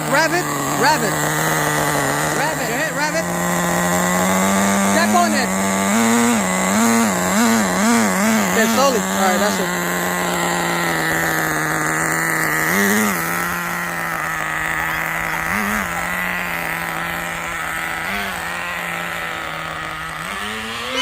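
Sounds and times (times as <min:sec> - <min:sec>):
engine throttle blips: 0:00.0 - 0:21.0
small two-stroke engine idling: 0:00.0 - 0:21.0.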